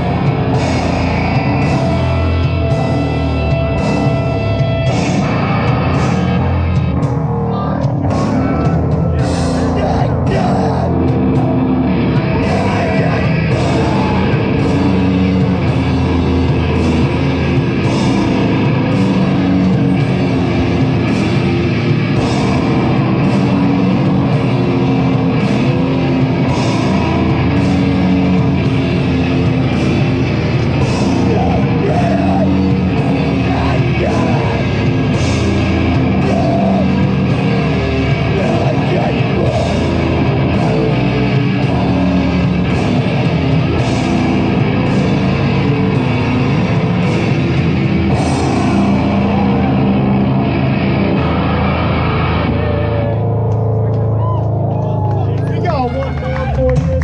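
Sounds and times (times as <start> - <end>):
metal band playing live: 0.0 - 57.0.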